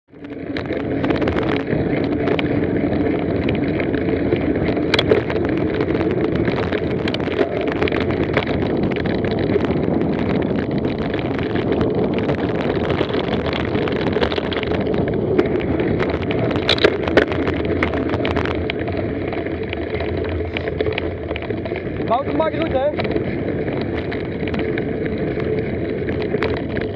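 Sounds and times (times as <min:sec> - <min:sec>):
bike rattling clicks and knocks: 0:00.1 - 0:26.9
bike tyre noise: 0:00.1 - 0:26.9
wind on microphone: 0:00.1 - 0:26.9.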